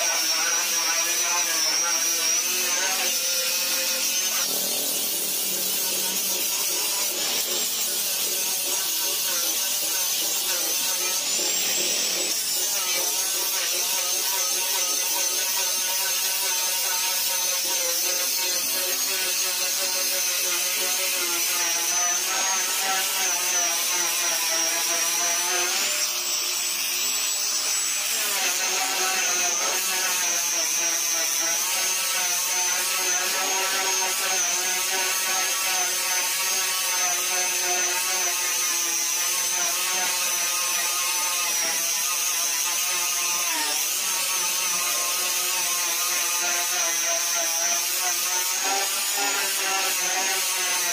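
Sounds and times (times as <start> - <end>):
angle grinder sanding metal: 0.0 - 50.9.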